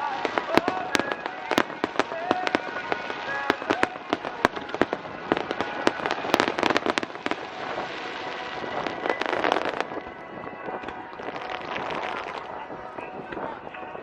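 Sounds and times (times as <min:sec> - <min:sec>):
firework shells bursting: 0:00.0 - 0:12.6
dense firework crackling: 0:00.0 - 0:14.0.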